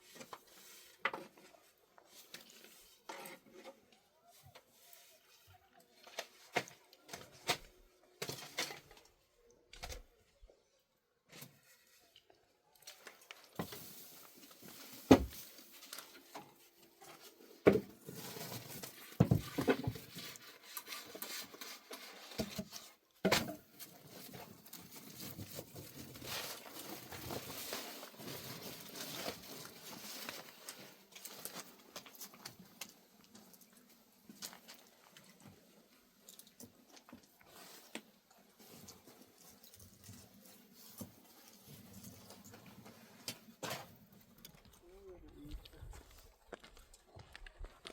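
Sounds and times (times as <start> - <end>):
rustling and handling noise: 0.0 - 47.9.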